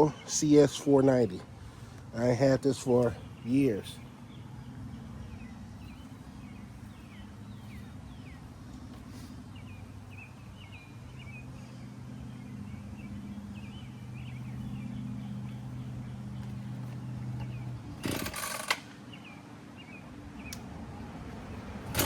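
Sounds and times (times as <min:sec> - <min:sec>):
low engine hum: 0:00.0 - 0:22.0
small birds chirping: 0:00.0 - 0:22.0.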